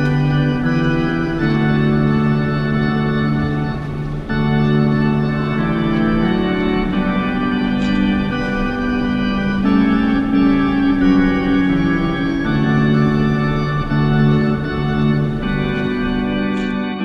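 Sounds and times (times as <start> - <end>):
organ chorale chords: 0.0 - 17.0.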